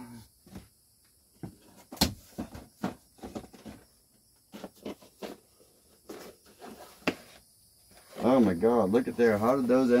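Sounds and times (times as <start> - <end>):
objects clunking and rustling: 0.4 - 10.0.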